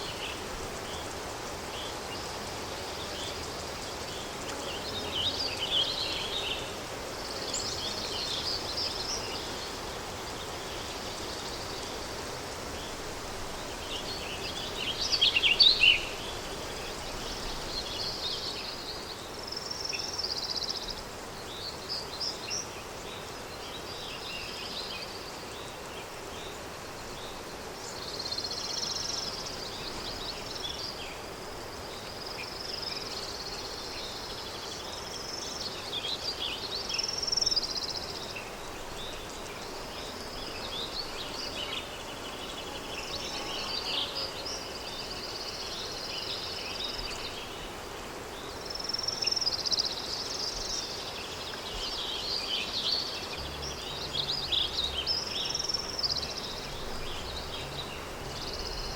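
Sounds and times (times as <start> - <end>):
songbirds singing: 0.0 - 58.9
wind hiss: 0.0 - 58.9.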